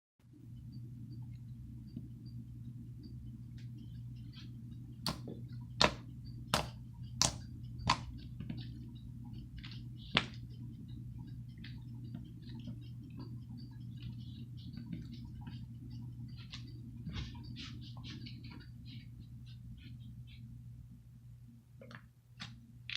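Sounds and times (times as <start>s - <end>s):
steady low hum: 0.2s - 22.9s.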